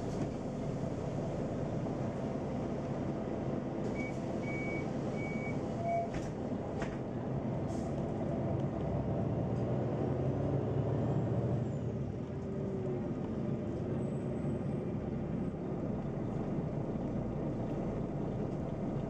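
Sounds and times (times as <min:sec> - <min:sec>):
bus engine and road hum: 0:00.0 - 0:19.0.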